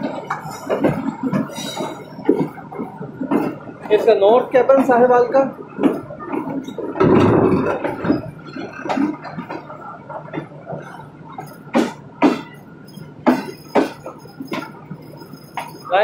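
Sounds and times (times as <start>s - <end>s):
train wheels knocking on rail joints: 0.0s - 15.9s.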